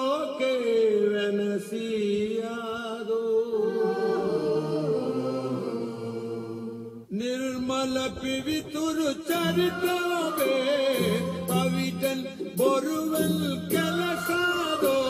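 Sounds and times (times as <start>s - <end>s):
chanted vocal music: 0.0s - 15.0s.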